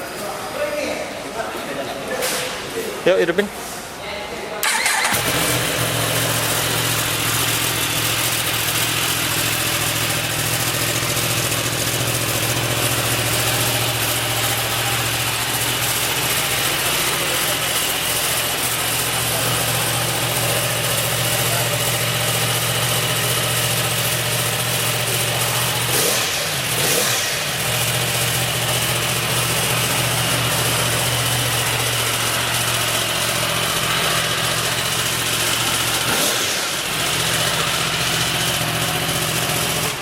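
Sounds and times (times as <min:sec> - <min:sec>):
motorcycle engine idling: 0:04.6 - 0:40.0.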